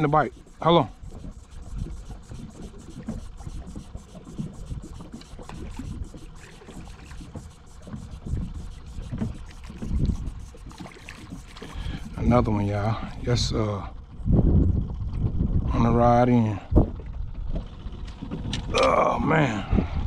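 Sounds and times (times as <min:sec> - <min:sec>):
wind and water around hull: 0:00.0 - 0:20.0.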